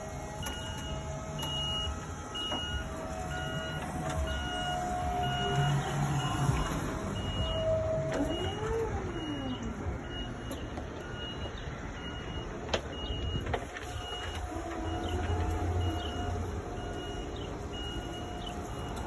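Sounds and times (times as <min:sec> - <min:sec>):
forklift engine humming: 0:00.0 - 0:19.0.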